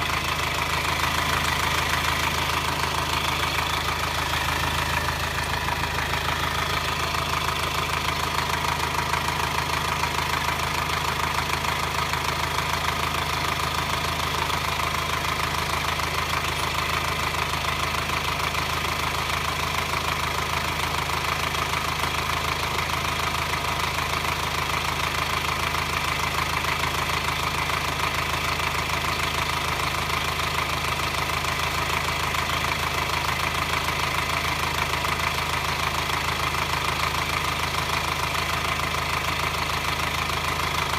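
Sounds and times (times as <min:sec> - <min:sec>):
diesel engine clattering: 0:00.0 - 0:40.9.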